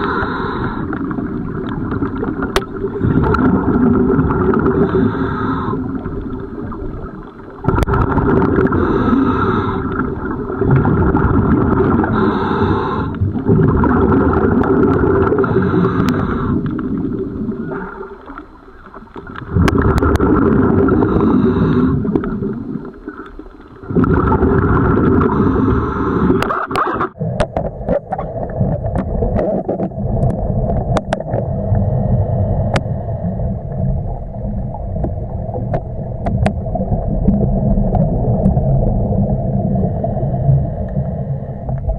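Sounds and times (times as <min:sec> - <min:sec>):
sharp clicks underwater: 0:00.0 - 0:31.5, 0:32.6 - 0:33.0, 0:34.7 - 0:38.7
exhaled bubbles gurgling underwater: 0:00.0 - 0:41.9
underwater water noise: 0:00.0 - 0:41.9.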